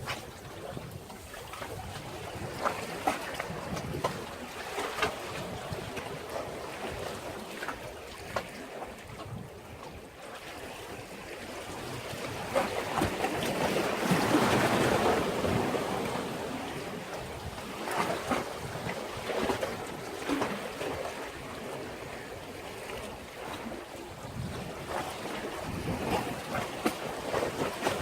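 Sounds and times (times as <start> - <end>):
waves washing against a breakwater: 0.0 - 28.0.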